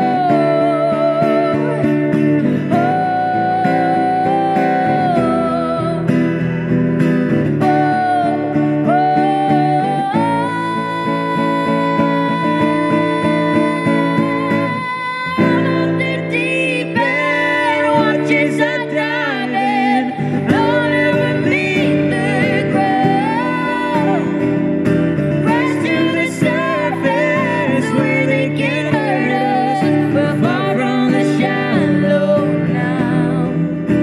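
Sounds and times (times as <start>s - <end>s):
woman and man singing a duet: 0.0s - 6.4s, 7.6s - 34.0s
strummed acoustic guitar: 0.0s - 34.0s.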